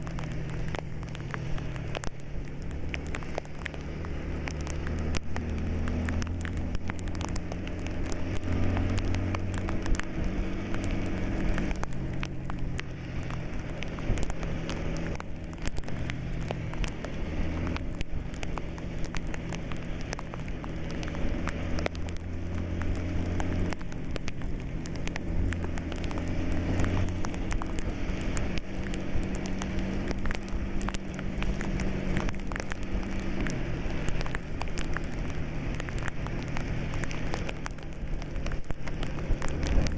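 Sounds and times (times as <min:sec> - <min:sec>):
rain hitting windscreen: 0:00.0 - 0:39.9.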